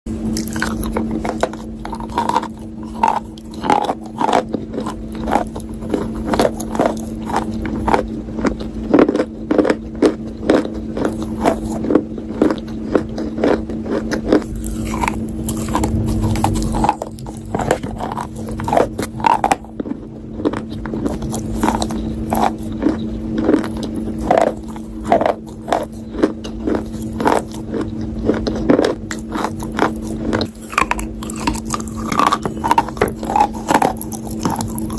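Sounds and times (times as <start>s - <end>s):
crunching and chewing: 0.1s - 34.9s
steady low hum: 0.1s - 34.9s.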